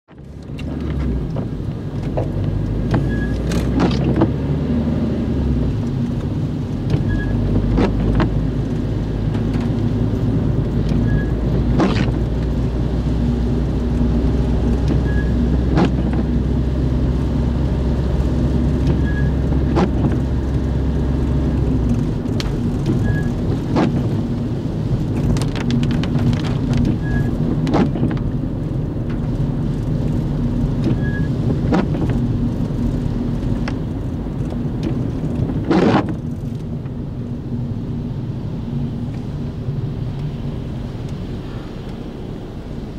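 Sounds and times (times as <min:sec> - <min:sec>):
engine and tyre rumble: 0:00.0 - 0:42.9
rain on windscreen and roof: 0:00.1 - 0:42.9.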